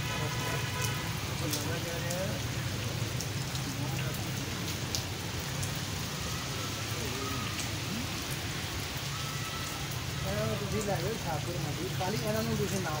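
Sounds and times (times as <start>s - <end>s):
rain on a tarpaulin: 0.0s - 13.0s.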